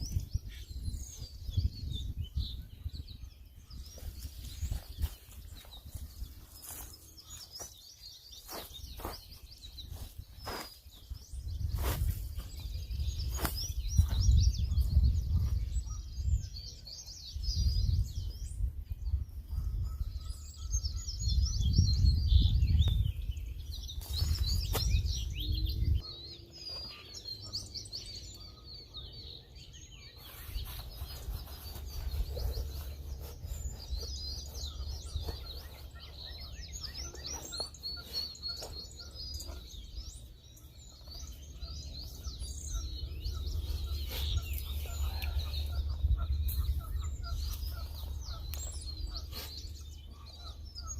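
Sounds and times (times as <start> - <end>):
birds chirping and singing: 0.0 - 50.9.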